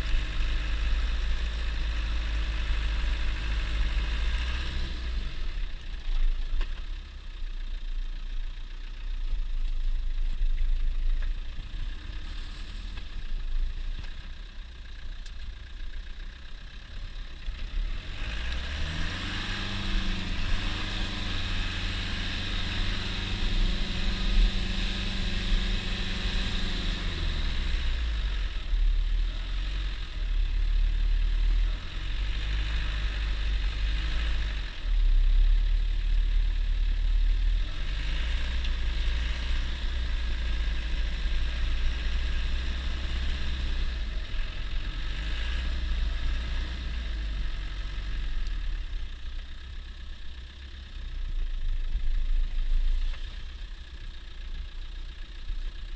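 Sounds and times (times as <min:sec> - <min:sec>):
car engine revving: 0:00.0 - 0:06.8, 0:15.7 - 0:54.1.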